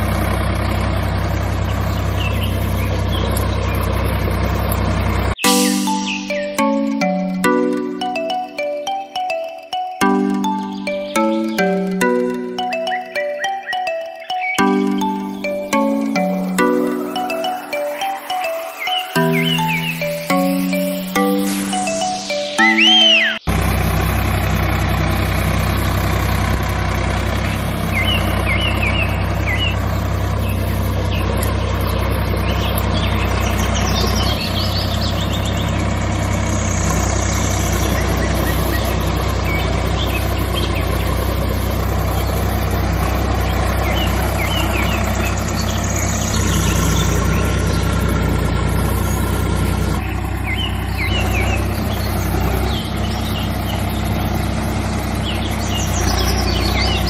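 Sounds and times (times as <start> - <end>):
birds chirping: 0.0 - 57.0
tractor engine droning: 0.0 - 57.0.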